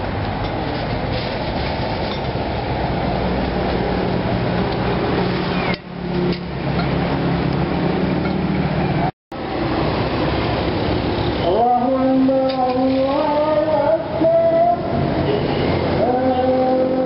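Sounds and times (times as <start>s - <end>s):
roadside traffic noise: 0.0s - 17.0s.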